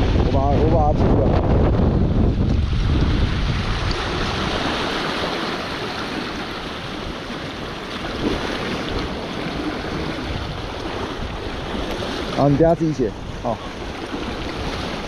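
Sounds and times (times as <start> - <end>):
waves washing against rocky shore: 0.0 - 15.0
wind gusting over microphone: 0.0 - 15.0.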